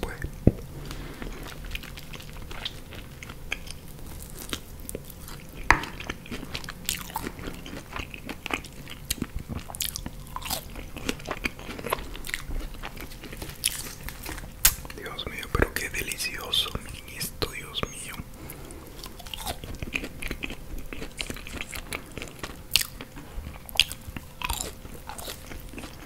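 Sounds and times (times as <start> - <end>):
chewing and crunching food: 0.0 - 26.0.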